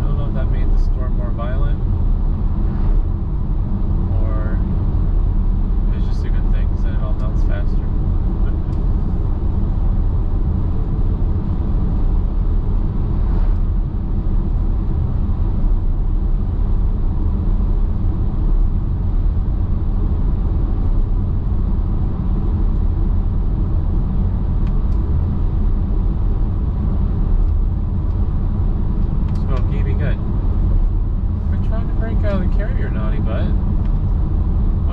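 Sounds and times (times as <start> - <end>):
car road noise drone: 0.0 - 34.9.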